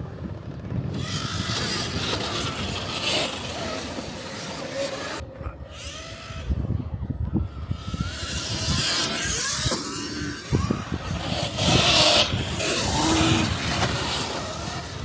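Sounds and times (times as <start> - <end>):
dirt bike engines: 0.0 - 15.0.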